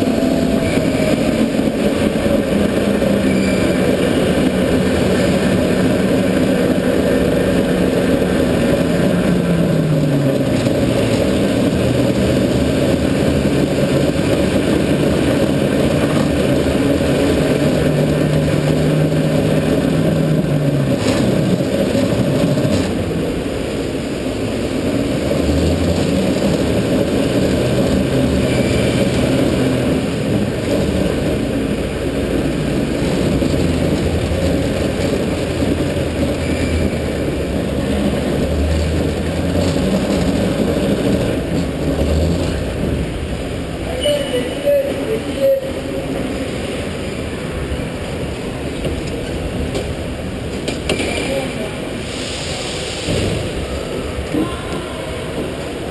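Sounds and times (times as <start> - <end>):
go-kart engine: 0.0 - 55.9.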